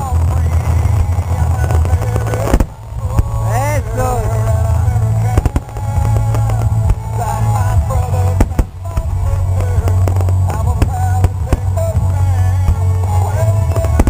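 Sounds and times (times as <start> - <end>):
fireworks bangs: 0.0 - 14.0
music playing: 0.0 - 14.0.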